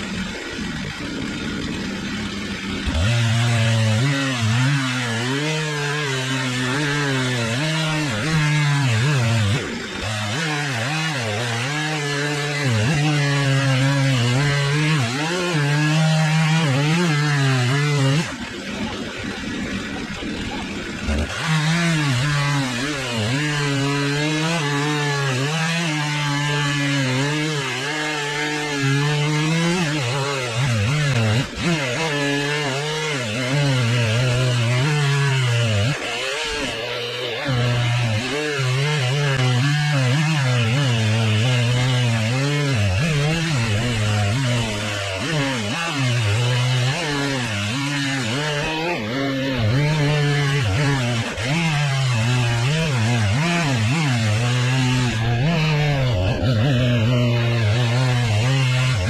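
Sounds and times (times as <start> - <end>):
chainsaw cutting under load: 0.0 - 59.0.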